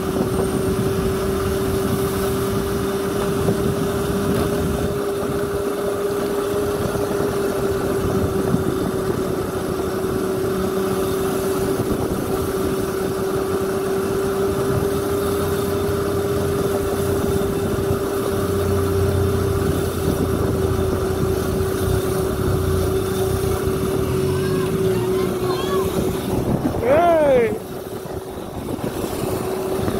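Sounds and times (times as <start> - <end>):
road and wind rumble: 0.0 - 29.9.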